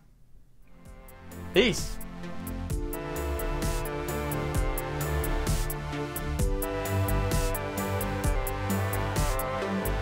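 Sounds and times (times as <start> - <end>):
background music with steady beat: 0.5 - 10.0.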